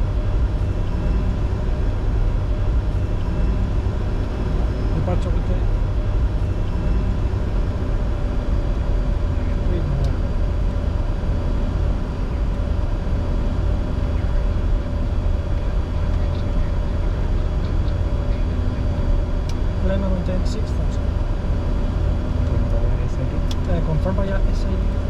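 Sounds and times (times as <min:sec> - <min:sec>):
faint steady whine: 0:00.0 - 0:25.0
jet cockpit engine rumble: 0:00.0 - 0:25.0.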